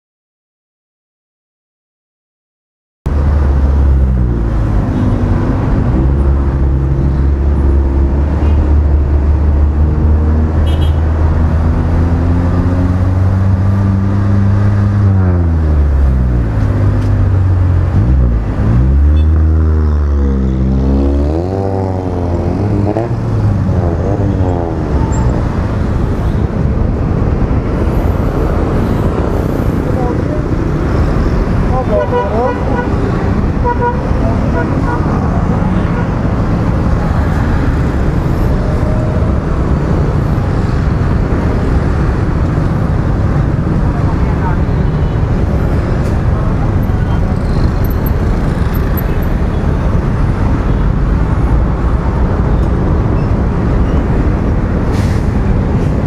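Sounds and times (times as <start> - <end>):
traffic noise: 3.1 - 56.0.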